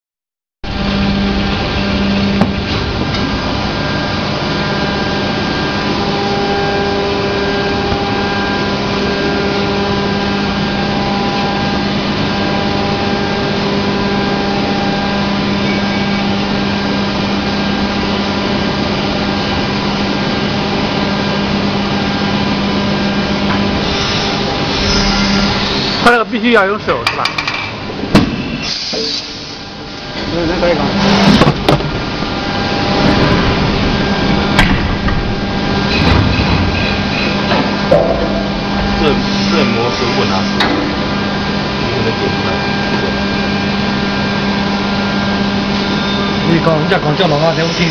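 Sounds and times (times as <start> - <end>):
machine mechanical drone: 0.6 - 47.9.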